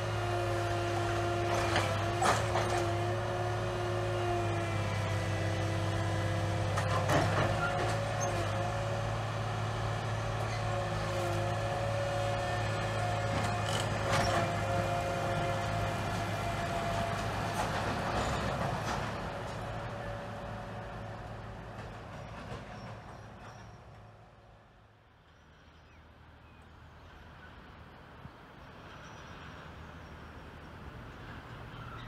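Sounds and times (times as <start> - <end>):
train engine drone: 0.0 - 32.0.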